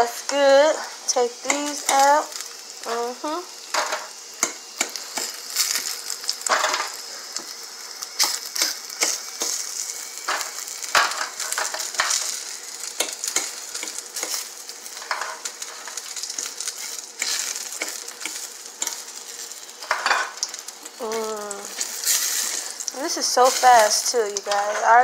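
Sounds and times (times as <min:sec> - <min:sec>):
sausage sizzling in hot oil: 0:00.0 - 0:25.0.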